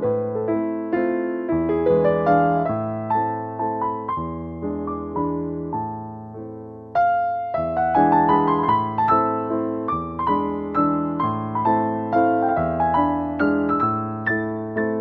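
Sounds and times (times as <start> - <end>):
gentle piano piece: 0.0 - 15.0.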